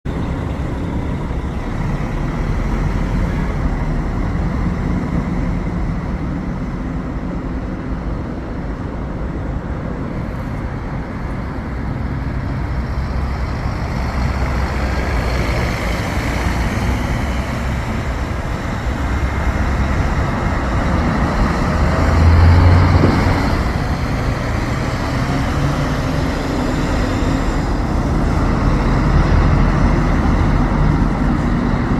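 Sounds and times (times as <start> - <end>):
bus diesel engine running: 0.0 - 31.9
road traffic noise: 0.0 - 31.9.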